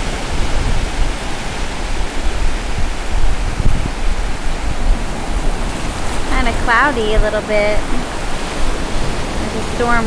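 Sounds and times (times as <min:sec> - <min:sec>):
low surf rumble: 0:00.0 - 0:10.0
ocean waves breaking: 0:00.0 - 0:10.0.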